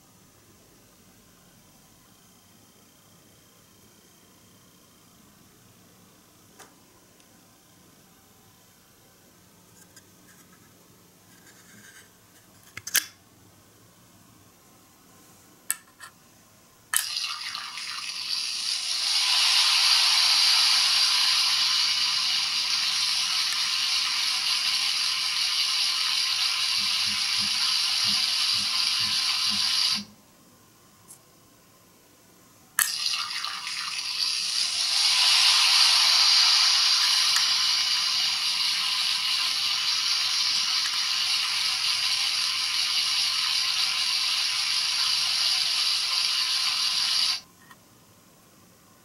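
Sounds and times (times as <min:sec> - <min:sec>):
tinny recorded sizzle from toy speaker: 0:00.0 - 0:49.0.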